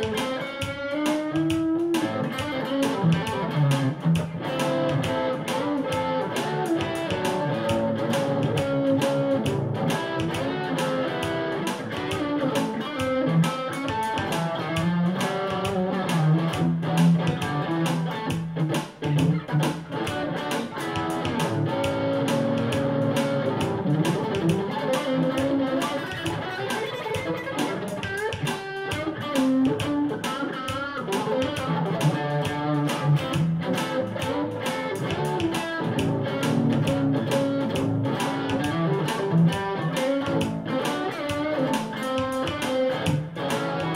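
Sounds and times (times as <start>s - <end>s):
electric guitar shuffle: 0.0s - 43.9s.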